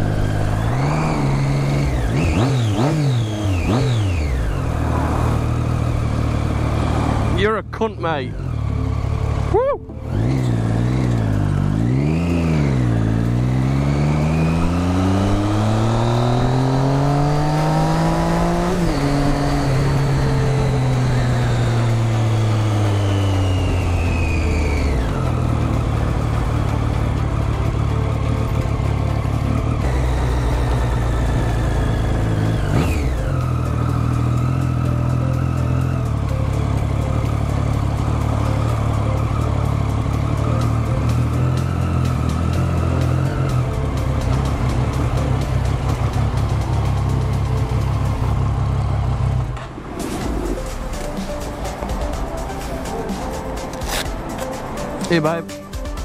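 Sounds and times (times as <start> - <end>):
motorcycle engine revving: 0.0 - 55.4.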